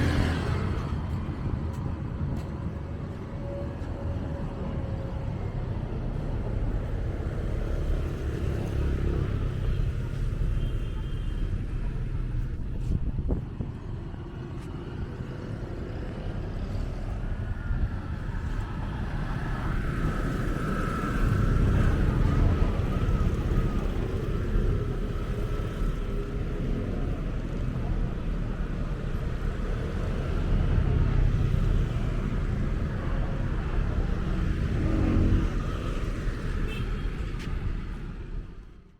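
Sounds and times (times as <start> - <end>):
low rumble of motor traffic: 0.0 - 38.9.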